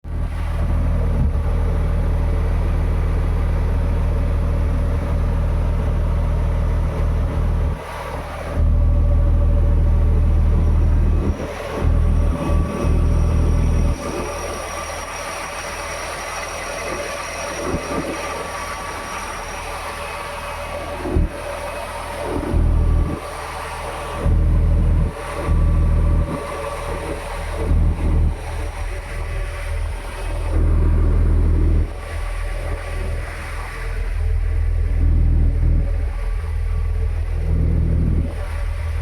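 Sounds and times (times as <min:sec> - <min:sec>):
crane diesel engine running: 0:00.0 - 0:39.0
faint high whine: 0:00.1 - 0:39.0.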